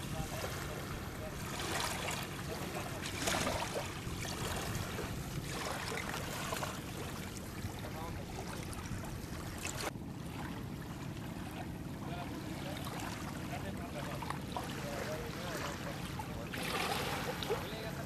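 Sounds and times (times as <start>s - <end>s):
boat motor running: 0.0s - 18.0s
river water noise: 0.0s - 18.0s
water splashes or knocks: 1.4s - 11.6s, 12.4s - 17.7s.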